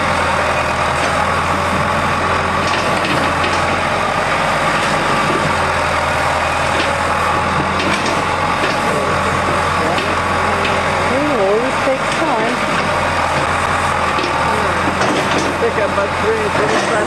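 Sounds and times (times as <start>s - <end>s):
heavy engine running: 0.0s - 17.0s.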